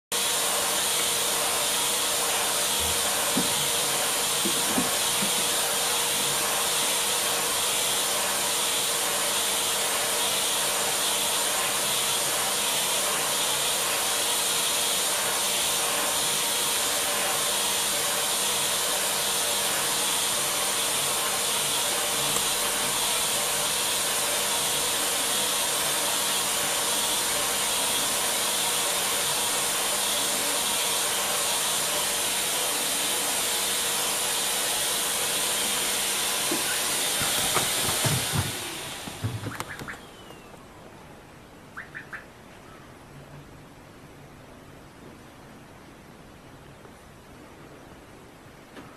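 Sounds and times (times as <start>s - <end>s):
vacuum cleaner running: 0.0s - 40.8s.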